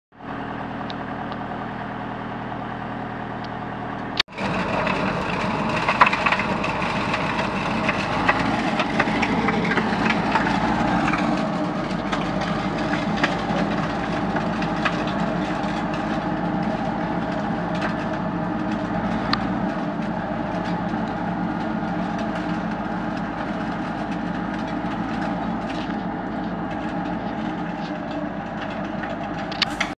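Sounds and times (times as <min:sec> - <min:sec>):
tractor engine running: 0:00.2 - 0:30.0.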